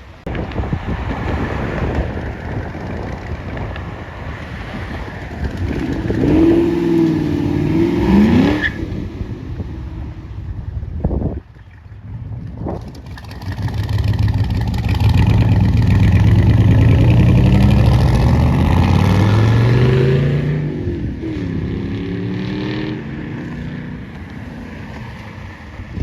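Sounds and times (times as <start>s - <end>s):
car engine accelerating hard: 0.9s - 9.8s, 12.9s - 25.4s.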